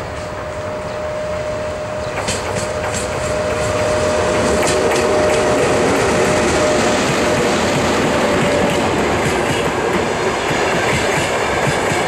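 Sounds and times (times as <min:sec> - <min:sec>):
electric locomotive approaching: 0:00.0 - 0:12.0.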